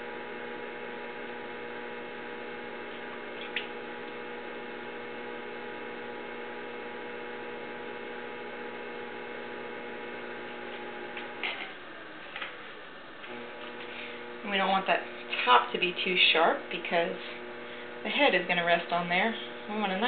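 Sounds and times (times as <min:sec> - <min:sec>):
potter's wheel motor humming: 0:00.0 - 0:20.0.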